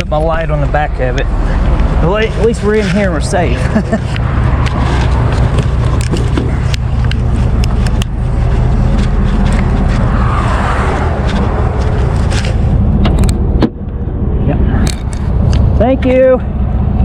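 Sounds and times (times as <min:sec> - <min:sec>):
highway traffic passing: 0:00.0 - 0:17.0
low vehicle rumble: 0:00.0 - 0:17.0.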